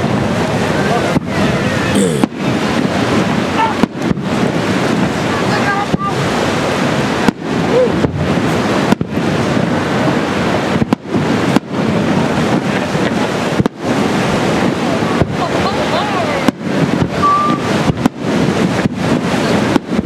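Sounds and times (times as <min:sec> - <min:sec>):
crowd voices: 0:00.0 - 0:10.3, 0:11.9 - 0:19.8
fireworks bursting with loud bangs: 0:00.0 - 0:20.0
wind on microphone: 0:00.0 - 0:20.0.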